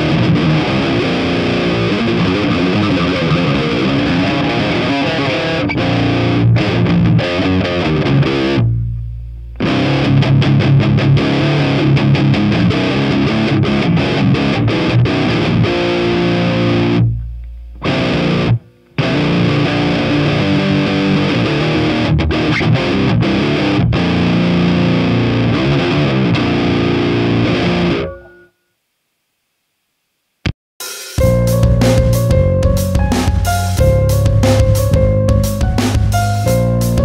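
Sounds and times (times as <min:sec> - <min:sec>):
distorted electric guitar riffing: 0:00.0 - 0:28.3, 0:31.2 - 0:37.0.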